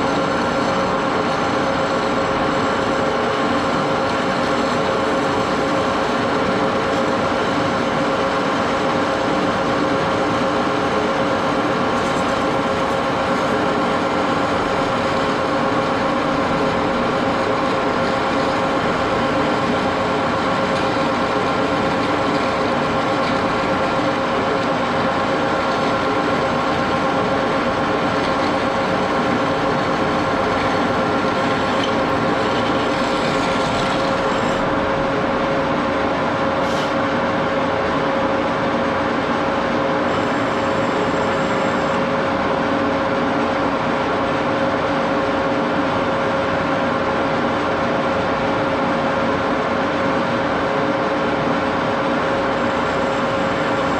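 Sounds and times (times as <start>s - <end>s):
lathe gearbox whine: 0.0s - 53.9s.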